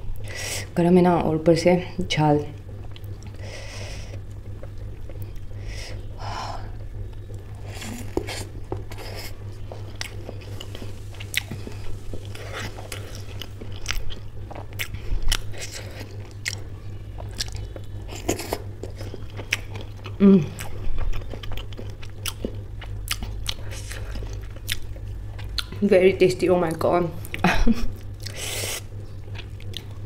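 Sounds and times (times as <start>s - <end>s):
low hum: 0.0s - 30.0s
close chewing and mouth clicks: 2.6s - 5.5s, 6.9s - 25.8s, 27.2s - 30.0s.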